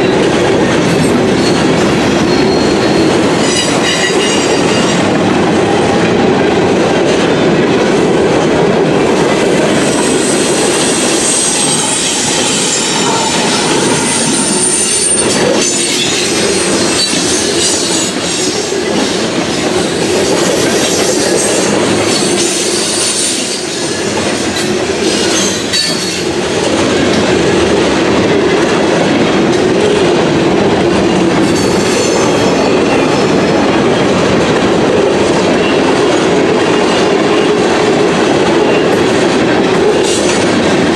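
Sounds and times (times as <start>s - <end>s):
steel wheels squealing on rail: 0.0s - 6.0s, 9.0s - 34.2s, 35.3s - 40.9s
train wheels clacking over rail joints: 0.0s - 40.9s.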